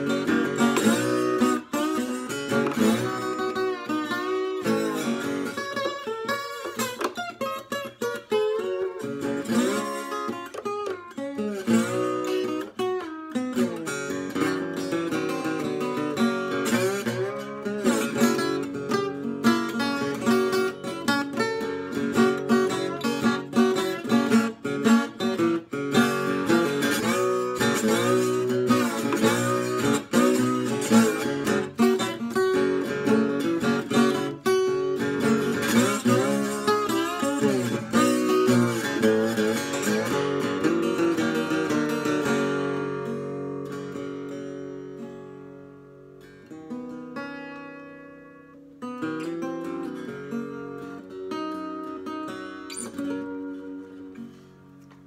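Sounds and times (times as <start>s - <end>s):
slide guitar blues: 0.0s - 55.0s.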